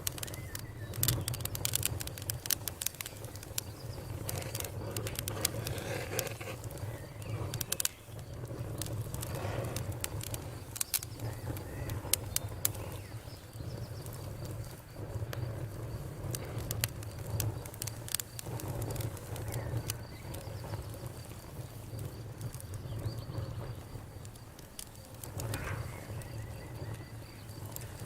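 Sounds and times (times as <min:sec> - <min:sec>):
crickets chirping: 0:00.0 - 0:28.0
wood fire crackling: 0:00.0 - 0:28.0.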